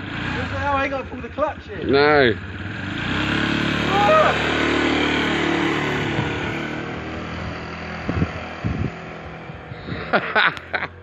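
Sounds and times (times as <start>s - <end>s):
scooter engine riding away: 0.0s - 11.0s.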